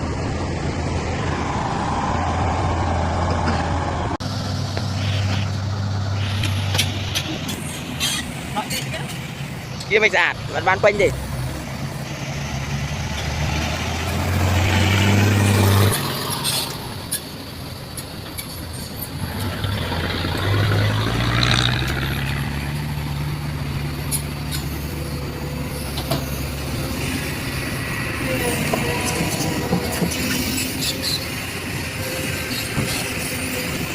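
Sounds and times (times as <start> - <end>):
diesel engine under load: 0.0 - 33.9.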